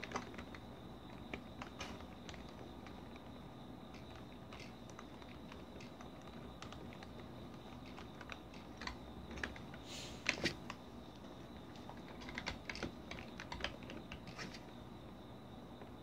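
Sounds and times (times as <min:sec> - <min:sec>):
computer keyboard typing: 0:00.0 - 0:10.8, 0:11.4 - 0:14.7.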